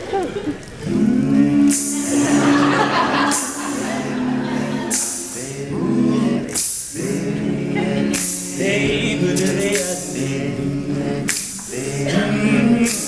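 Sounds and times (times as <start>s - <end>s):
vocal percussion snare hits: 0.8s - 7.4s, 8.0s - 10.5s, 11.2s - 13.0s
male group singing in harmony: 0.8s - 13.0s.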